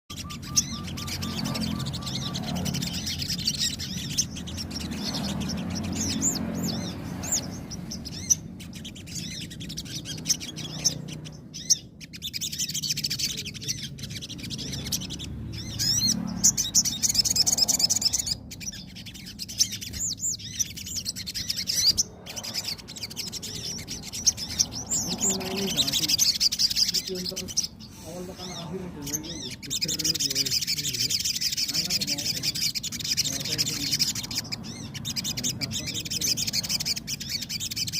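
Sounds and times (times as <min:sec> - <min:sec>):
songbird twittering chirps: 0:00.0 - 0:37.9.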